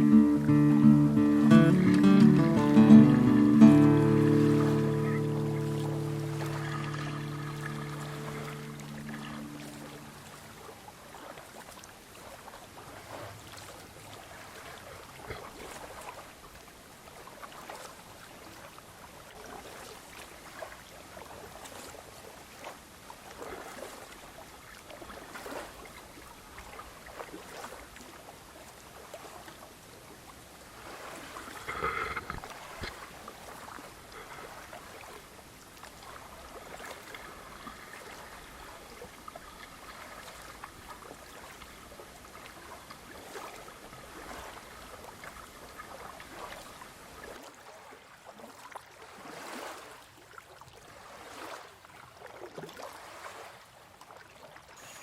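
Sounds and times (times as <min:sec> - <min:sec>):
kayak paddle splashing: 0:00.0 - 0:55.0.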